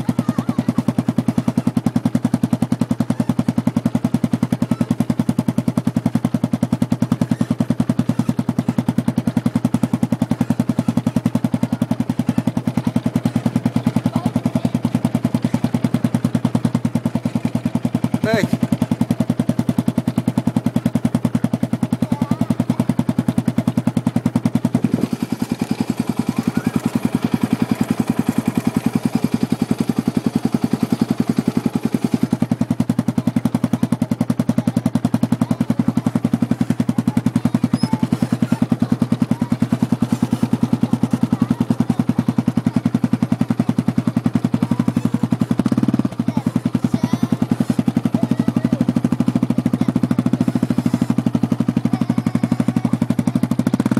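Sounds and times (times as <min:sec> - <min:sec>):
small engine exhaust pulses: 0:00.0 - 0:53.9.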